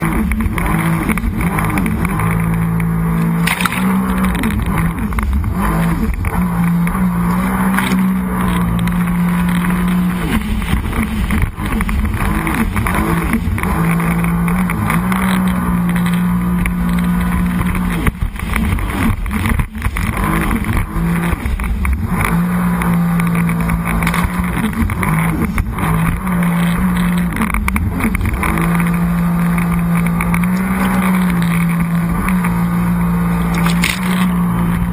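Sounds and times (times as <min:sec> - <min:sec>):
watercraft engine running: 0:00.0 - 0:34.9.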